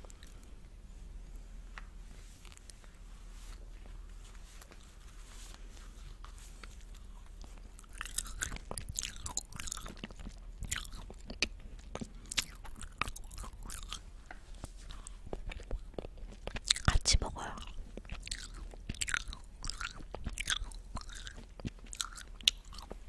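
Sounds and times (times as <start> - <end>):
soft chewing: 0.0 - 23.0.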